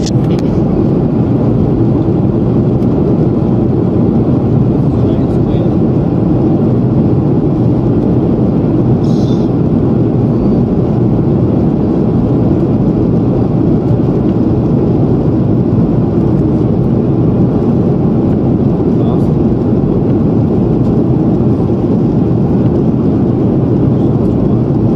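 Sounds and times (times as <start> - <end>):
jet airliner cabin noise: 0.0 - 24.9.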